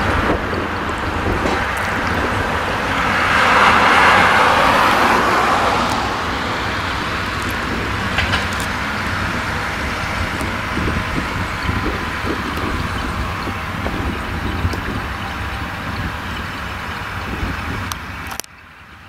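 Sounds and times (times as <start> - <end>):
diesel engines running: 0.0 - 19.0
passing vehicle tyre noise: 0.0 - 19.0.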